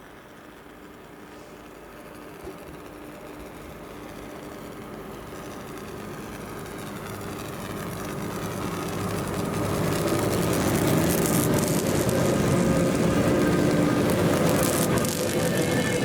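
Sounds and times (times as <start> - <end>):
train locomotive humming: 0.0 - 16.0.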